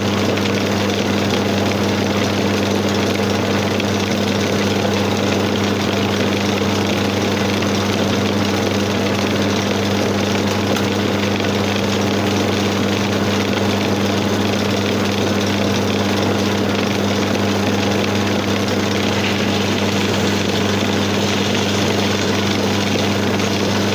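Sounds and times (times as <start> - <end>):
chisel cutting spinning wood: 0.0 - 23.9
lathe motor humming: 0.0 - 23.9.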